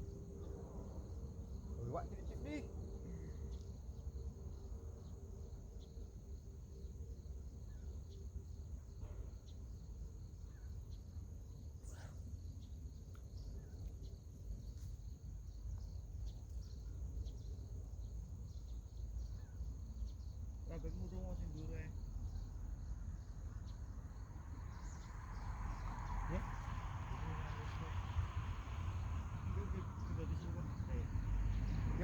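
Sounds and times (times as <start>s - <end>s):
insects chirring chorus: 0.0s - 32.0s.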